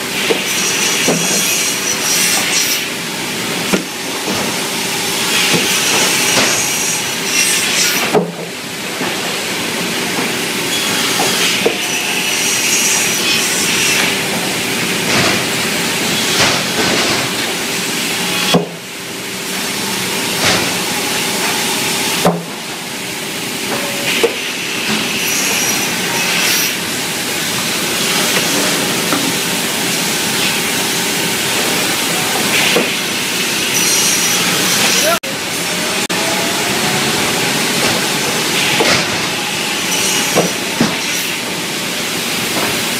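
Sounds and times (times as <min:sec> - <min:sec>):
saw machine hum and hiss: 0:00.0 - 0:42.9.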